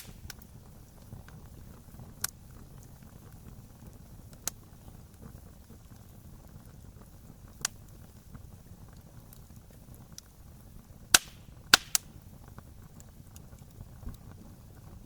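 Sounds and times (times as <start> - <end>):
campfire crackling: 0.0 - 15.0
campfire pops: 0.0 - 15.0
low rumble of flames: 0.0 - 15.0.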